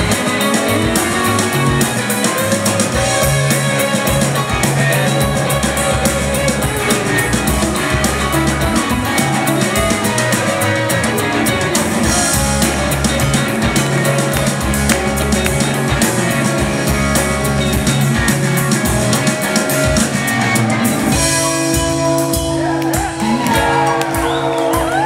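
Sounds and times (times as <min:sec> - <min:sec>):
drum kit with cymbals: 0:00.0 - 0:25.0
electric bass: 0:00.0 - 0:25.0
electric guitars: 0:00.0 - 0:25.0.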